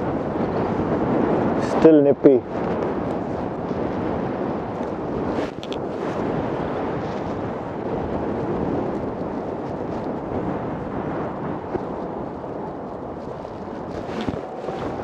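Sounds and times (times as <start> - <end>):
electric unicycle rolling on tarmac: 0.0 - 15.0
wind rush on microphone: 0.0 - 15.0.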